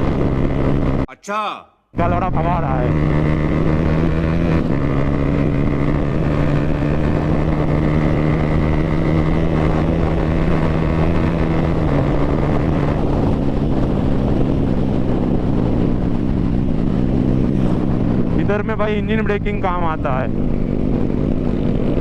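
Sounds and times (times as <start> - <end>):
motorcycle engine running hard: 0.0 - 1.1, 2.0 - 22.0.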